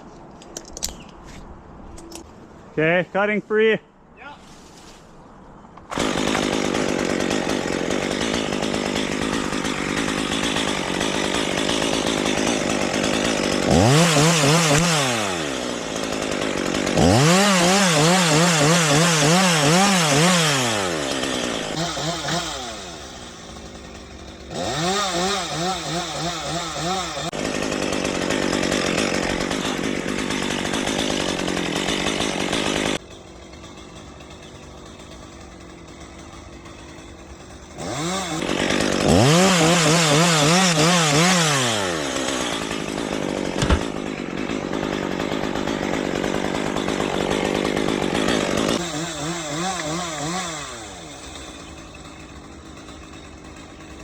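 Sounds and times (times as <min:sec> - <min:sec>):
chainsaw cutting wood: 0:05.8 - 0:54.0.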